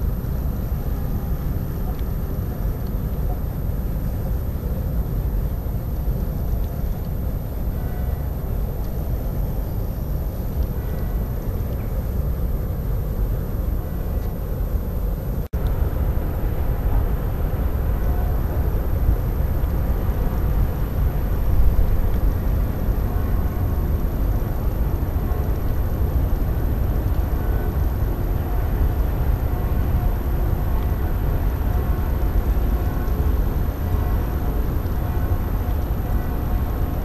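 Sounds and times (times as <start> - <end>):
ship engines rumbling: 7.2 - 37.0.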